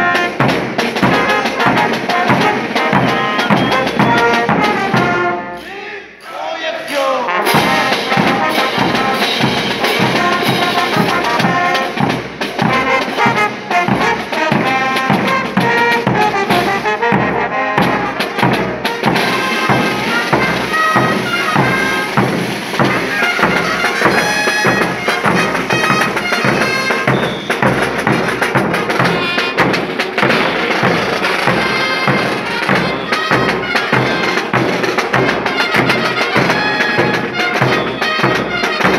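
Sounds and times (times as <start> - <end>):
bass drums: 0.0 - 5.5, 7.5 - 38.9
brass band playing: 0.0 - 38.9.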